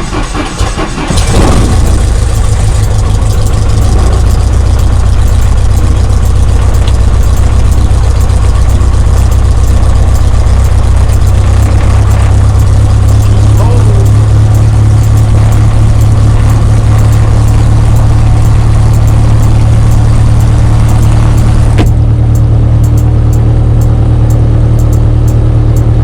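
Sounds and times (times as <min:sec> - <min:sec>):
aircraft piston engine starting: 0:00.0 - 0:23.1.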